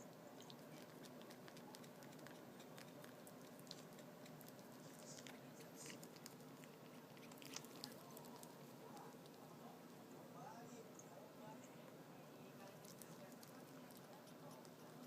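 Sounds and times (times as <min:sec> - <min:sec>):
cats licking fur: 0:00.0 - 0:10.1, 0:11.6 - 0:15.0
low room hum: 0:00.0 - 0:15.0.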